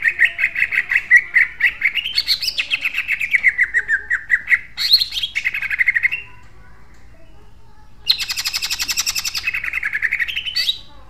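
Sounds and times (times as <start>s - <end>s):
bird singing fast harsh notes: 0.0s - 6.4s, 8.0s - 11.0s.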